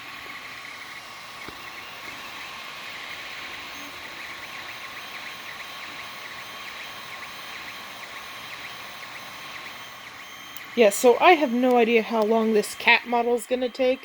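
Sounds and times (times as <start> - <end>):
fans humming: 0.0 - 14.0
stepper motors whining chirps: 0.0 - 14.0.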